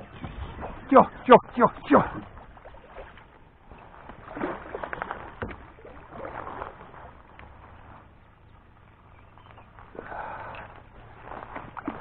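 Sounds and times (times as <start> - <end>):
paddle strokes splashing water: 0.0 - 12.0.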